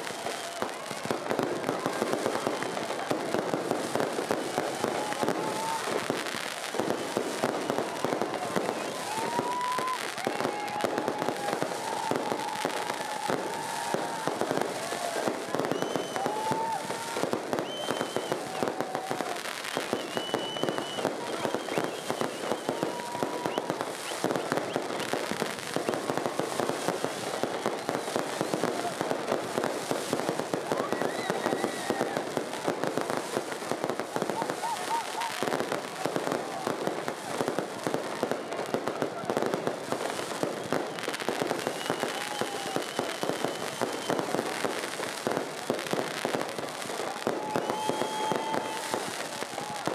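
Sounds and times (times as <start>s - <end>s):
crowd voices: 0.0s - 49.9s
fireworks bursting and crackling: 0.0s - 49.9s.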